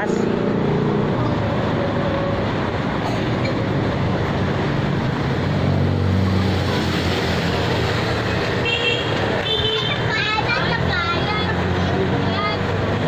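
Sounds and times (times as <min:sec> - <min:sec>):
city traffic noise: 0:00.0 - 0:13.0
vehicle engine running nearby: 0:00.0 - 0:13.0.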